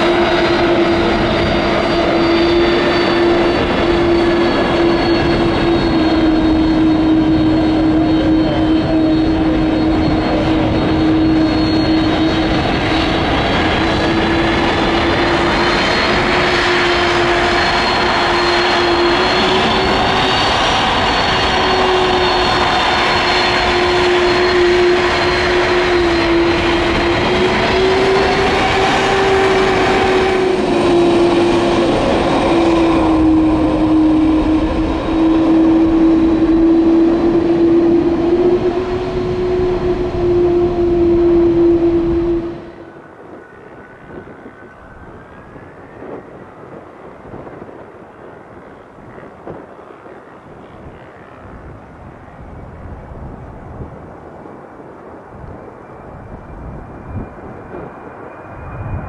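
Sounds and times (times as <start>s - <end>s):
jet engines droning with whine: 0.0s - 59.0s.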